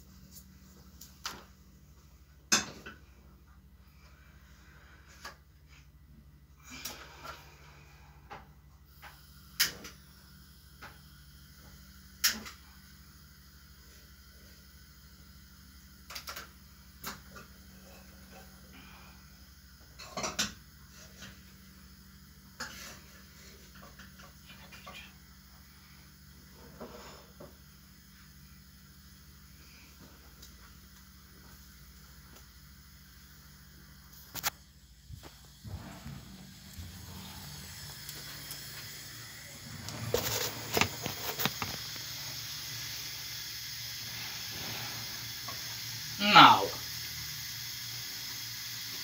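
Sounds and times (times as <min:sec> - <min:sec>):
steady low hum: 0:00.0 - 0:47.4.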